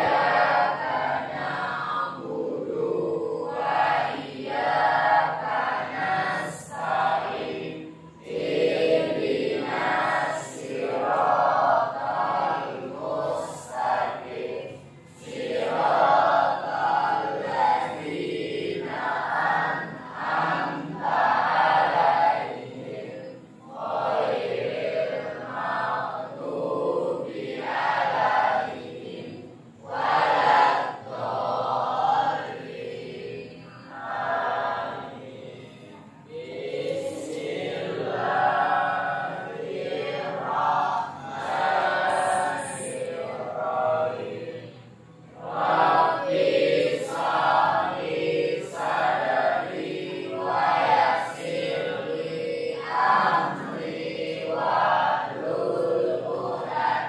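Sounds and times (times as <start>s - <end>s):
many voices singing in unison: 0.0s - 57.0s.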